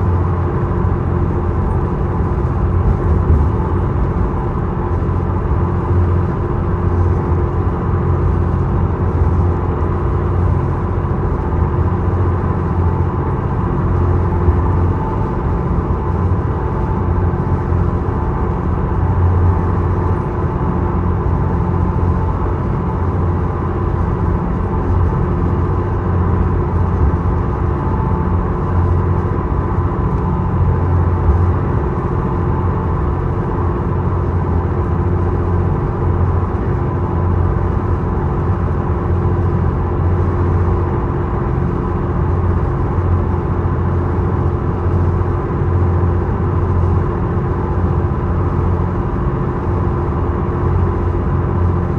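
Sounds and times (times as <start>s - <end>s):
ferry engine droning: 0.0s - 51.9s.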